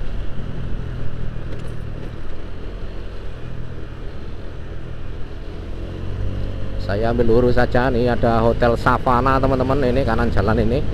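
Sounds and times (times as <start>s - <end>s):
road noise: 0.0s - 10.9s.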